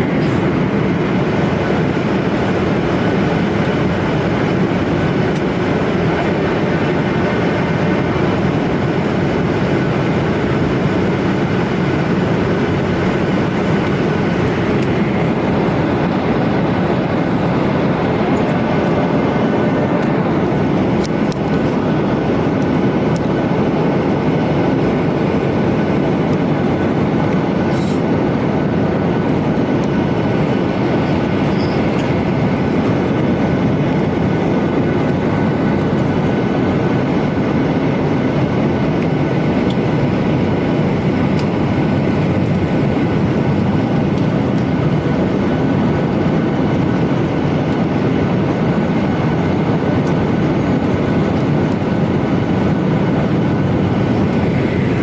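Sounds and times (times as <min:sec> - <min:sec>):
rail car rumbling: 0:00.0 - 0:55.0.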